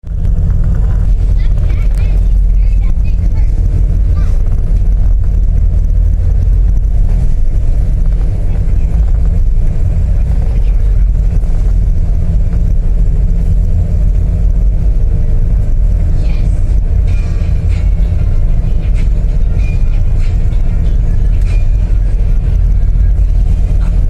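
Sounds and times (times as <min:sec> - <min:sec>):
ship engine rumbling: 0:00.0 - 0:24.0.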